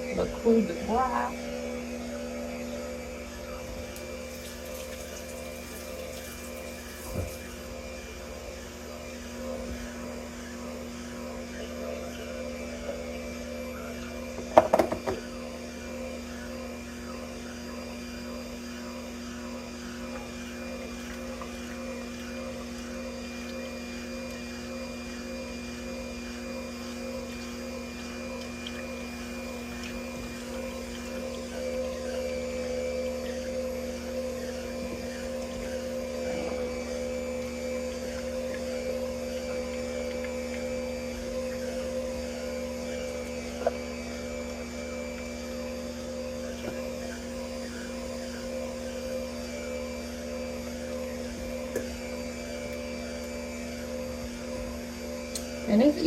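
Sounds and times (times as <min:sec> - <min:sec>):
juicer motor humming: 0:00.0 - 0:56.0.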